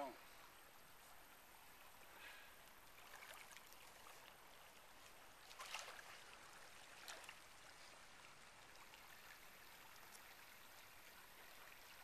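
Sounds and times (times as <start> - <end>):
stream running over stones: 0.0 - 12.0.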